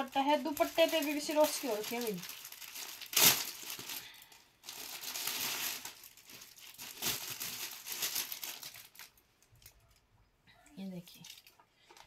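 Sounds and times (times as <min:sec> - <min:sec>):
plastic packaging crinkling: 0:00.0 - 0:10.0, 0:11.2 - 0:12.0.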